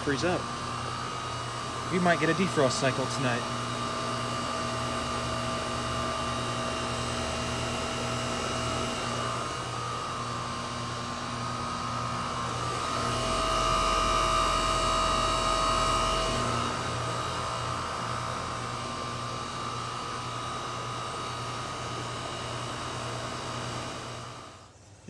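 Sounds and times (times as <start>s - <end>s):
heat pump compressor and fan hum: 0.0s - 25.0s.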